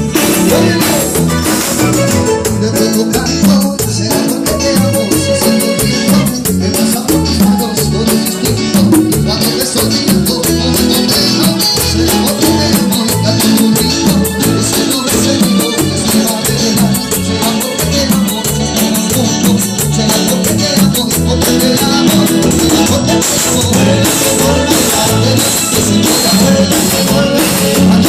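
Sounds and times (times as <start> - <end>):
pulsing bass line: 0.0 - 28.0.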